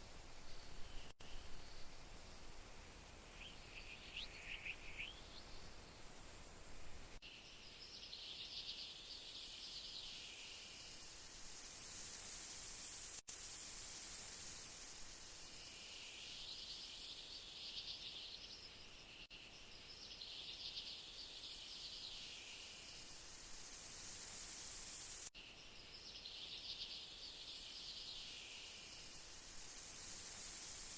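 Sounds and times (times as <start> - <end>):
steady hiss: 0.0 - 30.9
insects trilling: 0.4 - 30.9.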